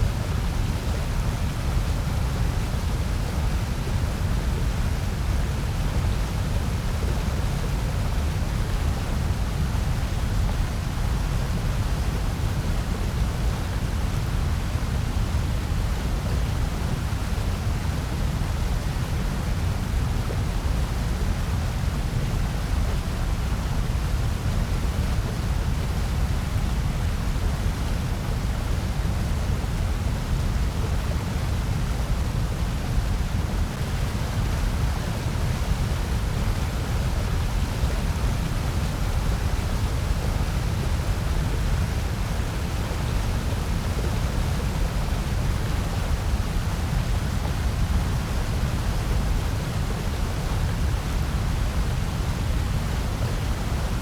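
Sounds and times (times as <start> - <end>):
low-heavy generated noise hiss: 0.0 - 54.0.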